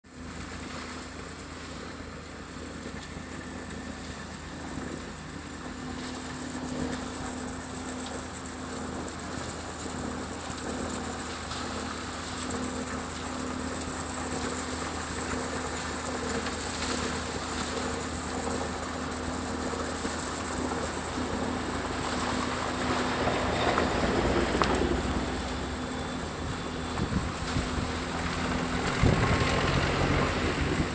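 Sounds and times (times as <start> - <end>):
machinery engine humming: 0.1 - 30.9.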